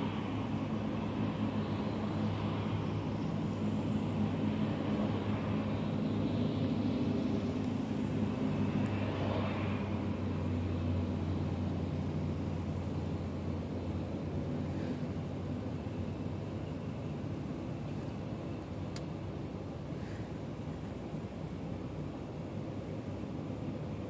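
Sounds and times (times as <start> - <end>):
tractor engines driving past: 0.0 - 24.0.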